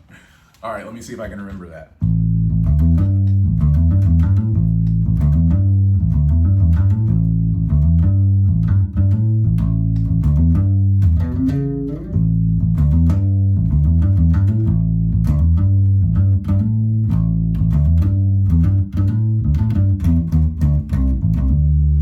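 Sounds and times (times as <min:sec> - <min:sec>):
electric bass riff: 0:02.0 - 0:22.0.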